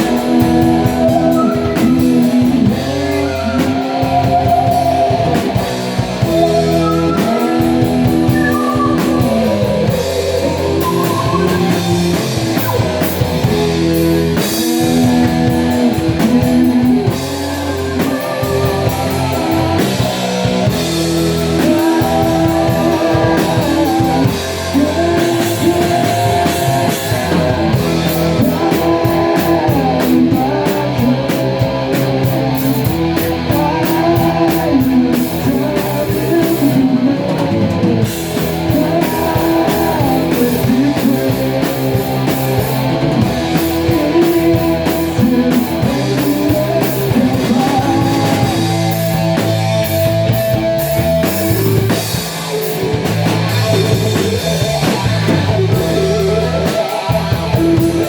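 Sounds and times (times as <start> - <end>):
bass guitar: 0.0 - 58.0
drum kit: 0.0 - 58.0
electric guitar lines: 0.0 - 58.0.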